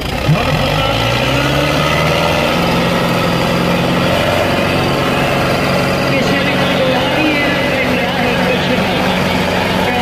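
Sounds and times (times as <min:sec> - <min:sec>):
tractor diesel engines under load: 0:00.0 - 0:10.0.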